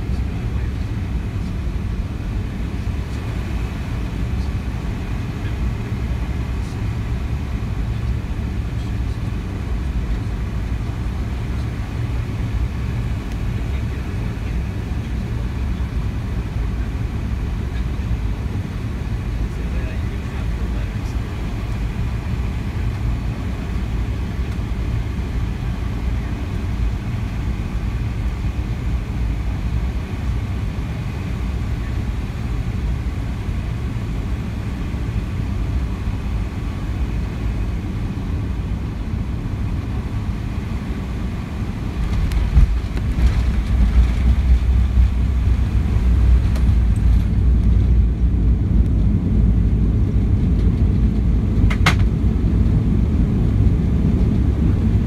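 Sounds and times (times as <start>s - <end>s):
aircraft cabin rumble: 0.0s - 55.0s
tyres rumbling on runway: 0.0s - 55.0s.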